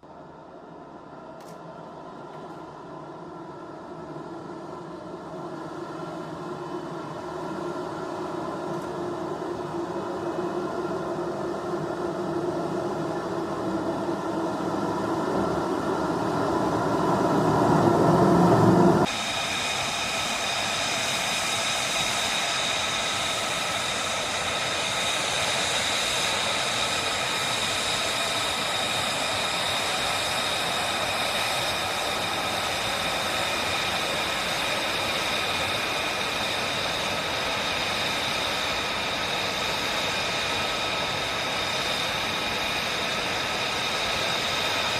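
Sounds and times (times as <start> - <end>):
high turbine whine: 0.0 - 44.9
jet engine roar: 0.0 - 44.9.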